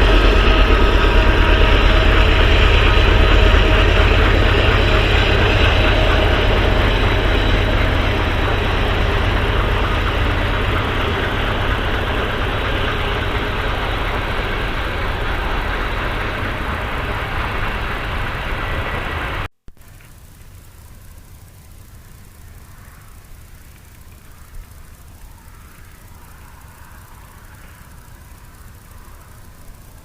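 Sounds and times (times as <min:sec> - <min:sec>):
faint hum: 0:00.0 - 0:30.0
low engine rumble: 0:00.0 - 0:30.0.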